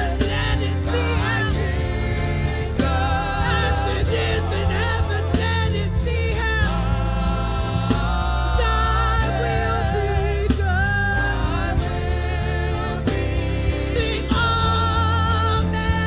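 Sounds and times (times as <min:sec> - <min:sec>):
drum hits: 0:00.0 - 0:16.0
heavy bass: 0:00.0 - 0:16.0.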